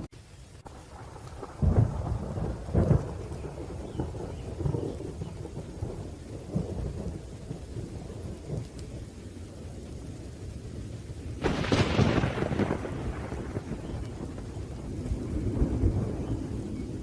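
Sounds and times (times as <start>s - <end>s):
rolling thunder: 0.0s - 17.0s
steady rain: 0.0s - 17.0s
loud crack of thunder: 0.7s - 8.7s, 11.4s - 17.0s.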